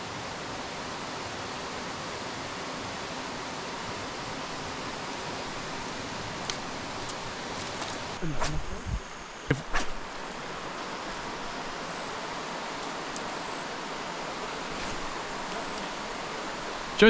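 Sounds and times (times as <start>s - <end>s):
creek running over rocks: 3.2s - 17.0s.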